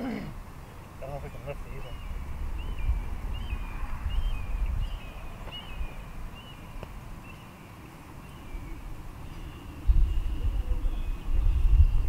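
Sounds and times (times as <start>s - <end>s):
bird chirping: 0.0s - 12.0s
wind buffeting microphone: 0.4s - 7.3s, 8.3s - 12.0s.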